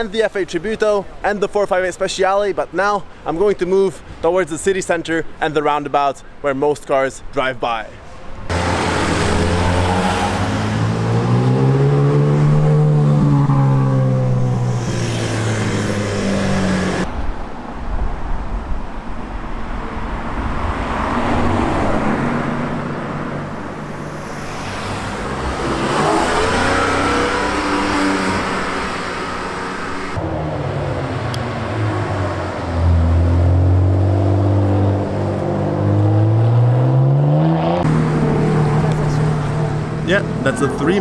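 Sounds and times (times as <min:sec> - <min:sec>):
cars driving past: 0:08.0 - 0:41.0.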